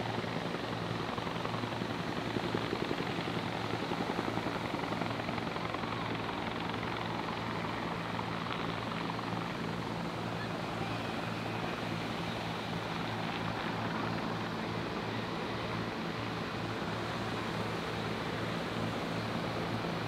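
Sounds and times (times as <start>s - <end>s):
helicopter rotors beating: 0.0s - 20.0s.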